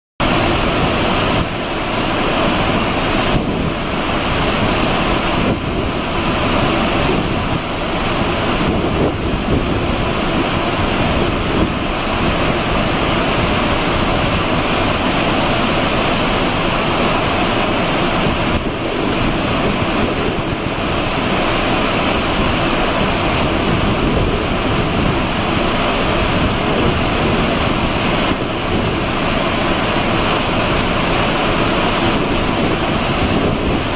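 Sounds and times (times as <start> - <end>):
ship's wake churning water: 0.2 - 33.9.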